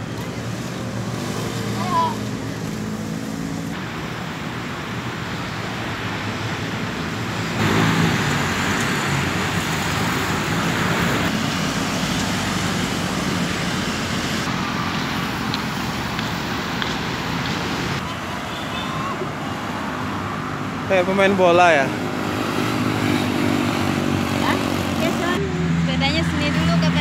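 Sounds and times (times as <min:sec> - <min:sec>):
road traffic passing: 0:00.0 - 0:27.0.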